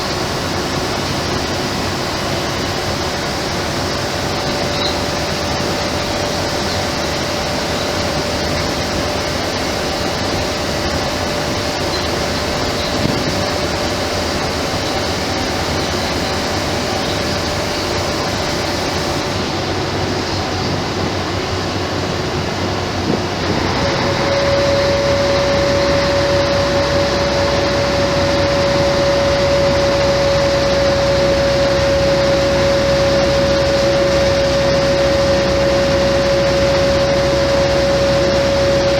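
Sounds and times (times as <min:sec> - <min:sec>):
bus diesel engine running: 0:00.0 - 0:38.9
transmission whine: 0:00.0 - 0:38.9.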